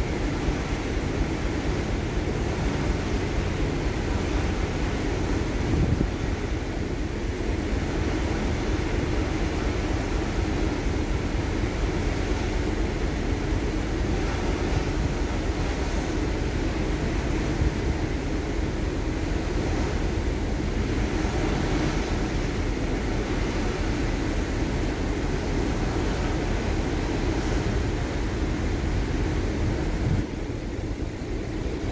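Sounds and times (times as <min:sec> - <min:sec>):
constant low rumble: 0:00.0 - 0:31.9
wind buffeting the microphone: 0:00.0 - 0:31.9.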